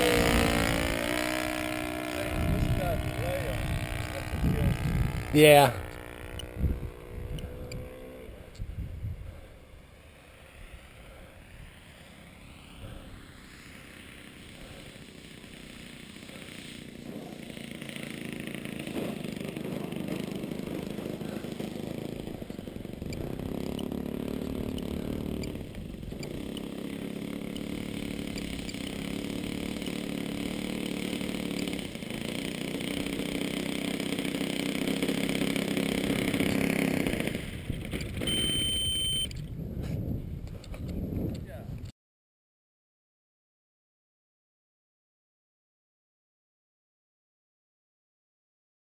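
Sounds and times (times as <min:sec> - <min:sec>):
model plane engine buzzing: 0:00.0 - 0:39.5.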